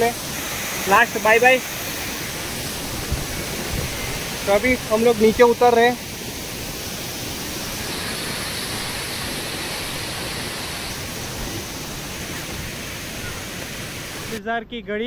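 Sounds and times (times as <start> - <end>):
waterfall rushing: 0.0 - 14.4.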